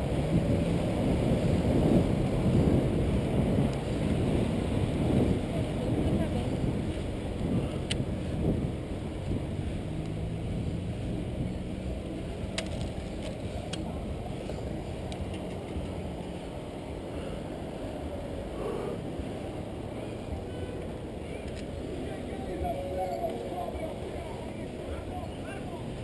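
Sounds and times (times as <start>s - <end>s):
passing car traffic: 0.0s - 26.0s
wind and road noise: 0.0s - 26.0s.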